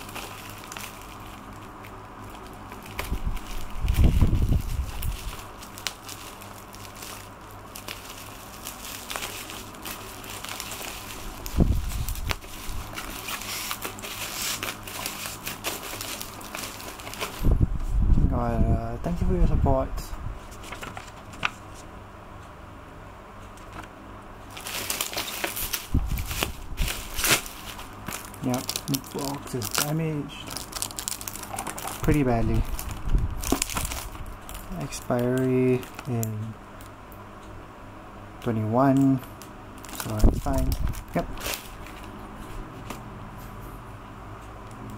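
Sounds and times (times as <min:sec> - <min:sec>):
bubble wrap crinkling: 0:00.0 - 0:18.1, 0:20.4 - 0:21.6, 0:24.5 - 0:37.0, 0:38.4 - 0:43.0.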